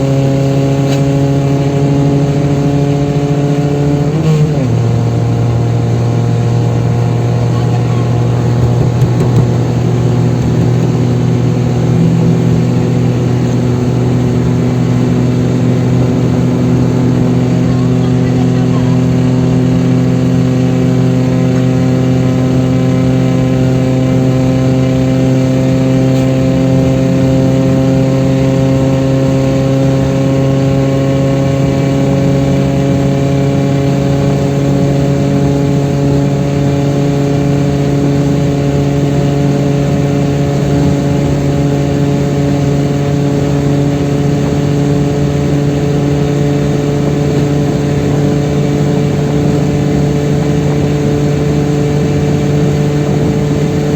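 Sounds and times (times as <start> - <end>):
car engine running at high speed: 0.0 - 53.9.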